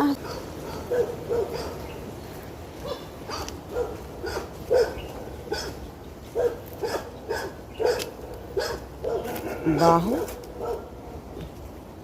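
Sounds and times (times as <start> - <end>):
dogs barking: 0.1 - 2.0, 2.8 - 11.2.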